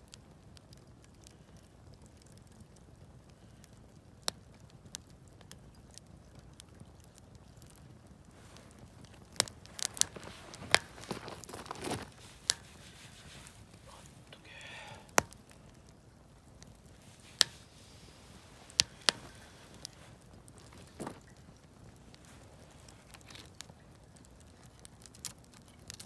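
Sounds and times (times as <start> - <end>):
burning wood popping: 0.0 - 26.0
campfire crackling: 0.0 - 26.0.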